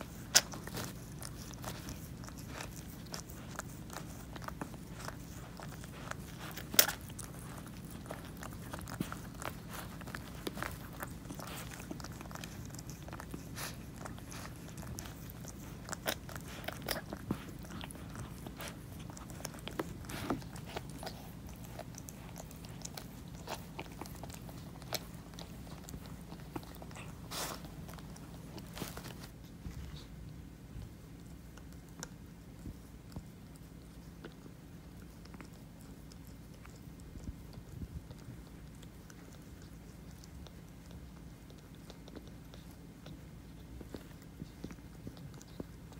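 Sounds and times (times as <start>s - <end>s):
cat licking and chewing: 0.0s - 45.9s
low steady hum: 0.0s - 45.9s.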